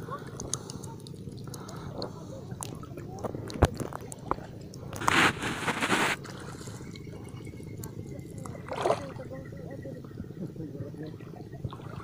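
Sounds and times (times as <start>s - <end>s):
shallow water splashing: 0.0s - 9.7s, 11.2s - 12.0s.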